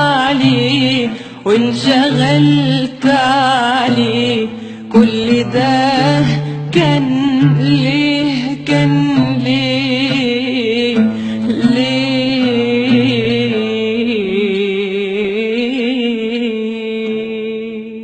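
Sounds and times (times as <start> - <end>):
woman singing with vibrato: 0.0 - 18.0.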